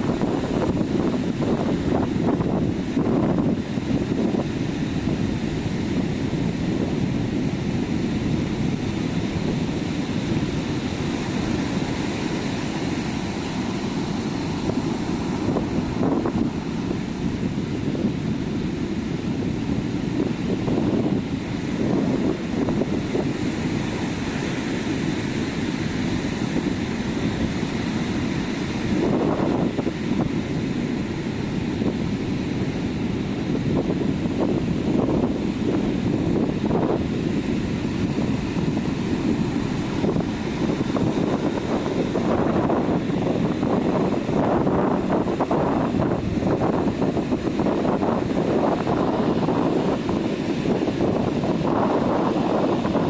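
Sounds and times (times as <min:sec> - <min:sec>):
sea waves breaking on a beach: 0:00.0 - 0:53.0
wind buffeting the microphone: 0:00.0 - 0:53.0.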